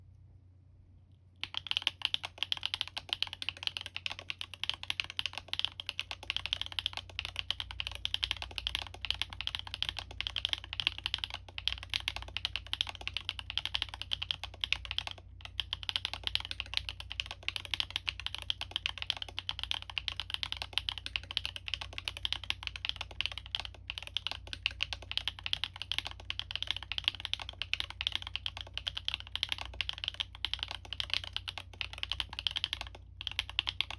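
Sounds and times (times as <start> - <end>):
typing on mechanical keyboard: 1.4 - 33.9.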